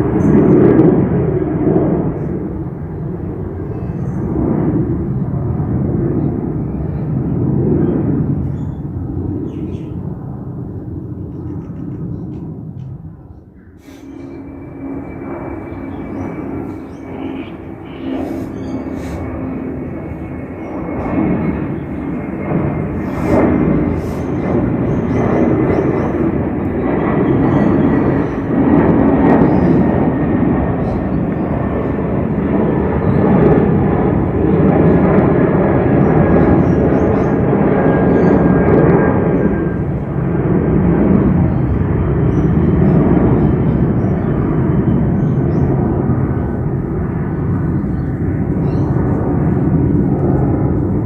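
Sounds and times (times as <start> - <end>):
airliner engines rumbling overhead: 0.0 - 51.0.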